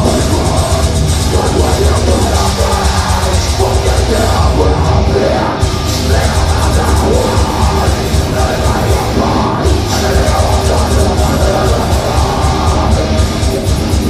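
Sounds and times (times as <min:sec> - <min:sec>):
metal band playing loud: 0:00.0 - 0:14.0.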